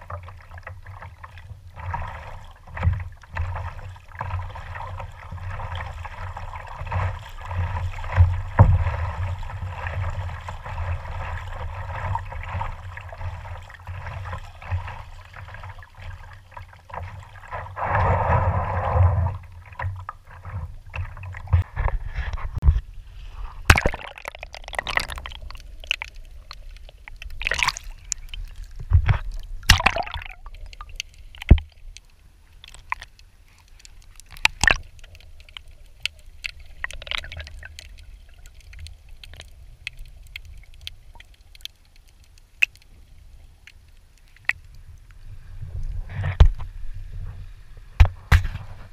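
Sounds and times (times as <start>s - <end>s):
sea water sloshing and gurgling: 0.0s - 48.9s
underwater clicks and knocks: 0.1s - 22.8s, 23.6s - 42.9s, 46.1s - 46.7s, 48.0s - 48.9s.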